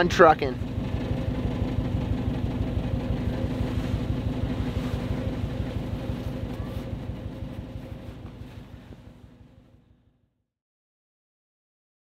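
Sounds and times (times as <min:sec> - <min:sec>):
van engine idling: 0:00.0 - 0:10.2.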